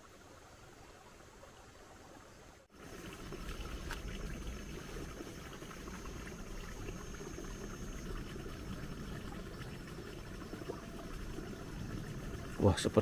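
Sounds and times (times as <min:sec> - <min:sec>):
faint outdoor background rush: 0:00.0 - 0:13.0.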